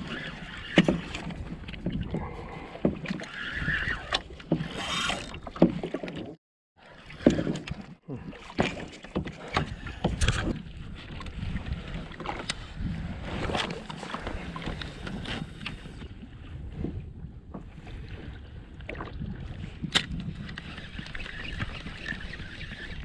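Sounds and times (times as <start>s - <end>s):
wind rumbling on microphone: 0.0s - 5.5s, 9.4s - 23.0s
water splashing around kayak: 0.0s - 23.0s.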